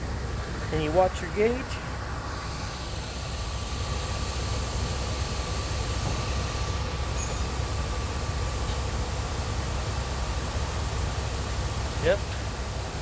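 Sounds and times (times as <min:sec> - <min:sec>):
faint machinery whine: 0:00.0 - 0:13.0.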